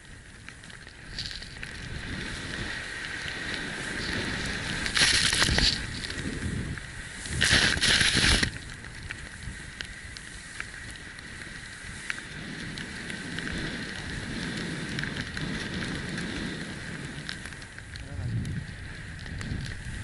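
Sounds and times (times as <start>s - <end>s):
wind on microphone: 0.0s - 20.0s
snowboard hissing through powder: 1.0s - 17.4s.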